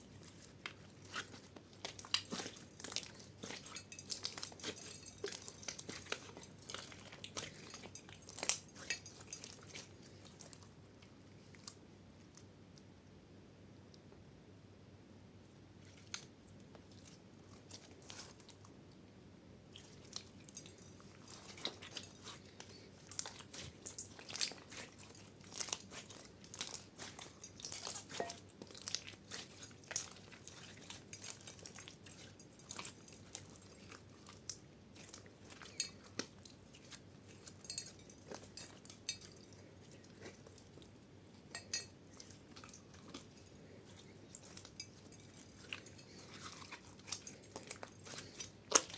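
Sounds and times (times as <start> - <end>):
slime squishing and crackling: 0.0 - 11.8, 15.9 - 18.7, 19.7 - 48.9.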